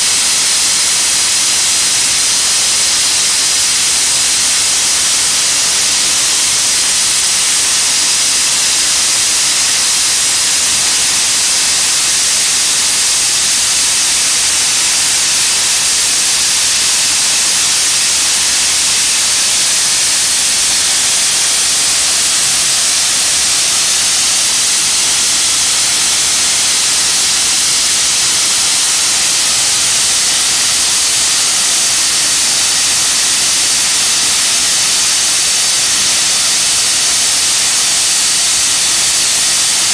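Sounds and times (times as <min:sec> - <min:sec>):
steam locomotive venting steam: 0:00.0 - 0:39.9.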